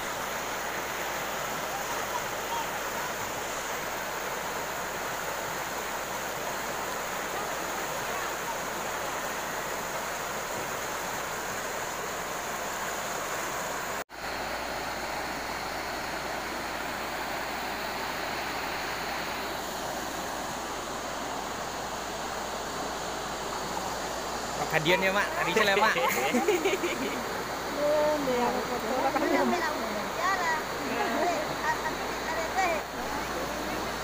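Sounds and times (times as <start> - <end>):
fast-flowing river rushing: 0.0 - 34.0.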